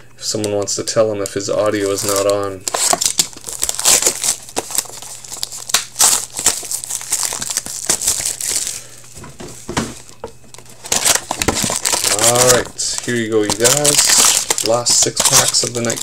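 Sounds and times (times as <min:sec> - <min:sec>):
plastic wrapping crinkling and tearing: 0:01.6 - 0:09.0, 0:10.0 - 0:16.0.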